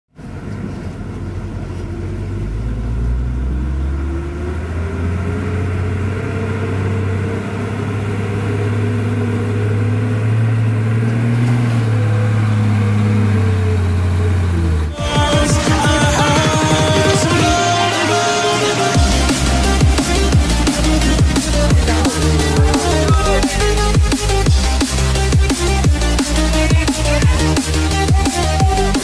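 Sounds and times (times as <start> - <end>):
truck diesel engine straining: 0.1 - 29.0.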